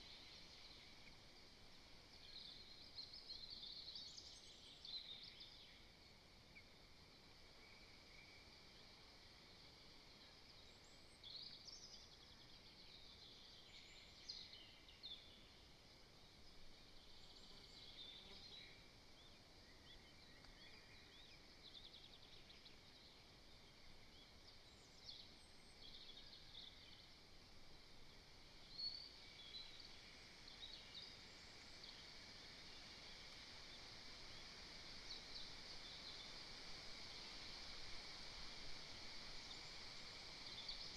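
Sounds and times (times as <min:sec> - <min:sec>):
faint hiss: 0:00.0 - 0:40.9.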